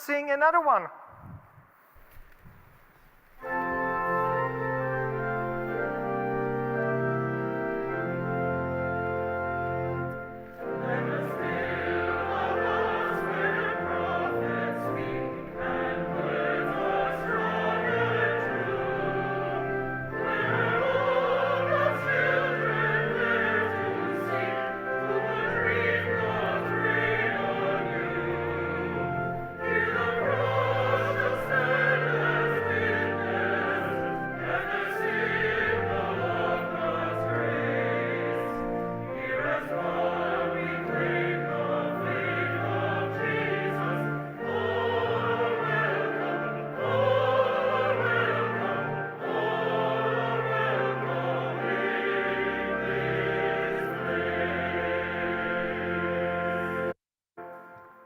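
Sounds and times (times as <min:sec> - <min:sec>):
group singing a hymn: 0:03.4 - 0:57.0.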